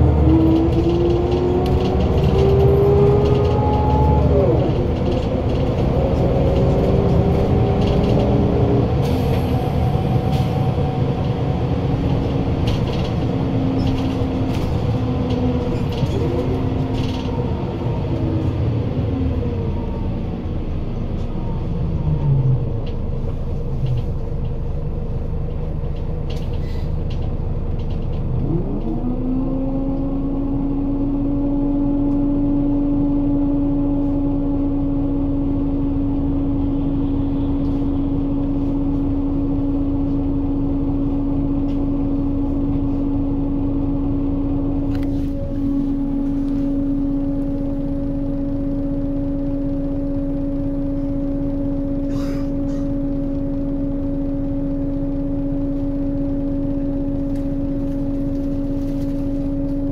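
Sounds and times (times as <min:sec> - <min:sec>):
bus engine and gearbox whining: 0:00.0 - 0:59.9.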